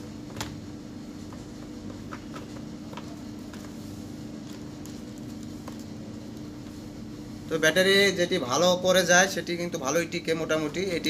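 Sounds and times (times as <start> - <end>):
table fan humming: 0.0 - 11.0.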